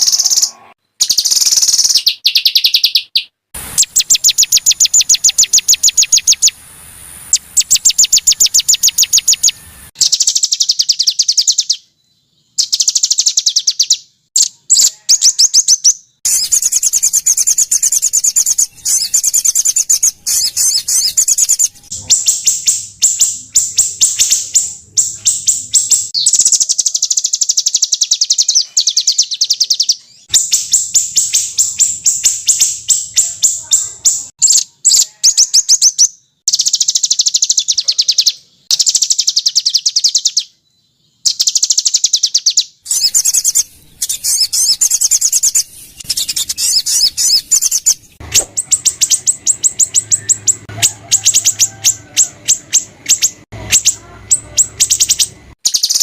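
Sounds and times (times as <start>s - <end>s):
songbirds chattering trills: 0.0s - 6.6s, 7.3s - 56.0s.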